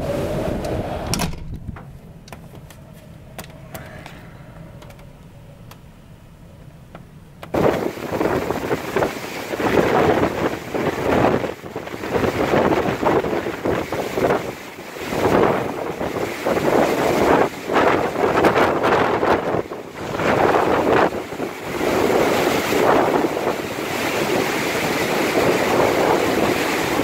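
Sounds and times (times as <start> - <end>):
rough sea breaking: 0.0 - 1.9, 7.0 - 27.0
muffled ship rumble: 0.0 - 27.0
storm wind buffeting microphone: 0.0 - 27.0.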